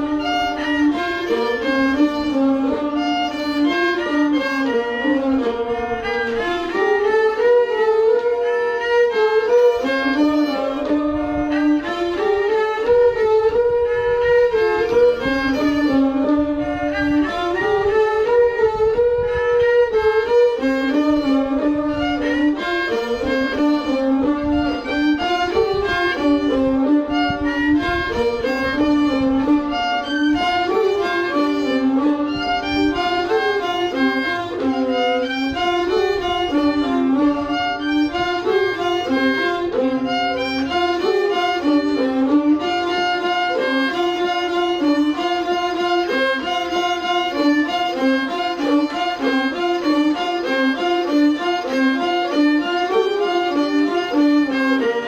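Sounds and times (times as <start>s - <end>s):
bowed string instrument melody: 0.0s - 55.0s.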